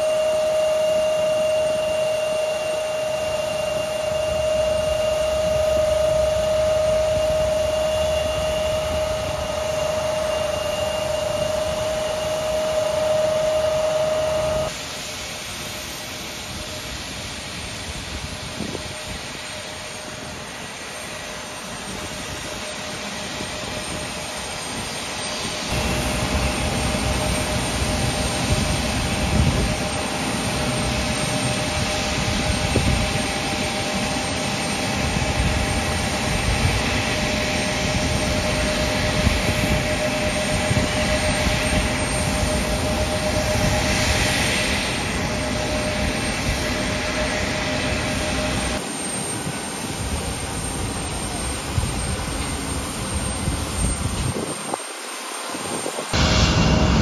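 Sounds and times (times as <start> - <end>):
jet engine whine and rumble: 0.0 - 57.0.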